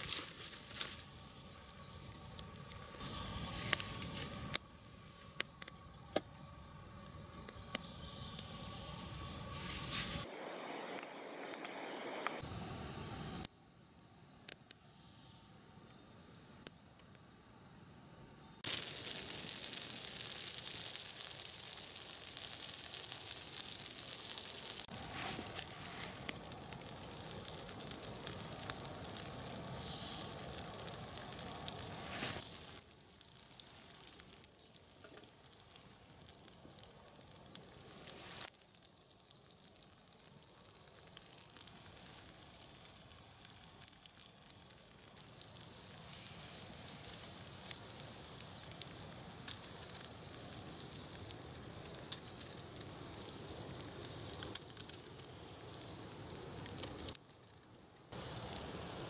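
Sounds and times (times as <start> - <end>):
potato slices sizzling: 0.0 - 12.5, 18.6 - 59.0.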